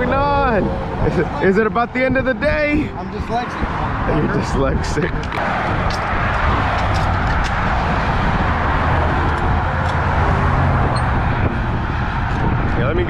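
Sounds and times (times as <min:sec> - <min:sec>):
highway traffic noise: 0:00.0 - 0:13.0.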